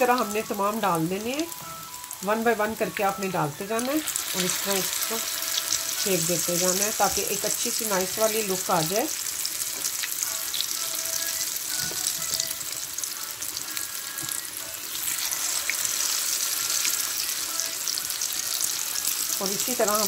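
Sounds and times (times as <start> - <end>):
fritters sizzling in hot oil: 0.0 - 20.0.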